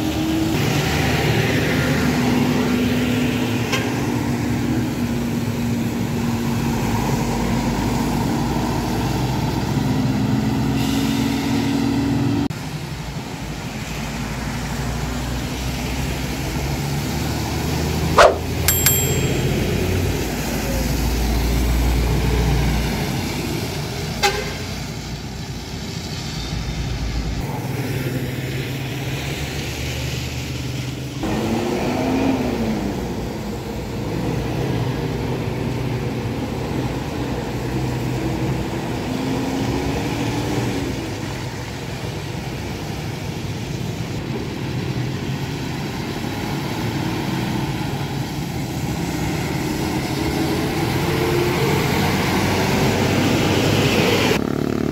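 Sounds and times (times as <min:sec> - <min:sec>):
bus diesel engines passing: 0:00.0 - 0:18.7, 0:19.6 - 0:54.9.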